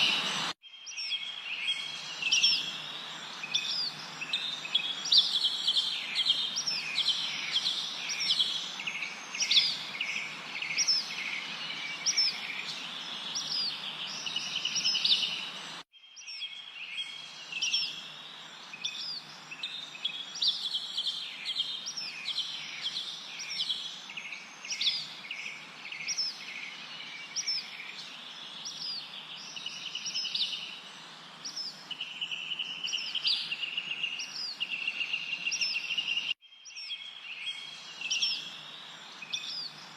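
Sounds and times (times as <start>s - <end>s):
background hiss: 0.0s - 15.8s, 16.7s - 36.4s, 37.2s - 39.9s
songbirds chirping and trilling: 0.0s - 39.9s.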